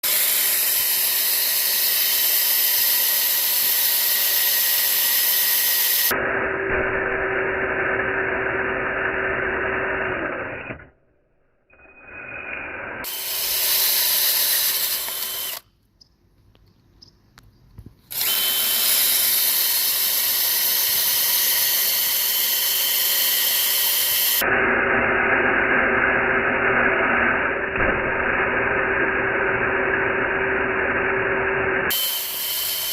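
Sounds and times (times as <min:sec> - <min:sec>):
electric drill boring wood: 0:00.0 - 0:10.9, 0:12.0 - 0:15.6, 0:18.1 - 0:32.9.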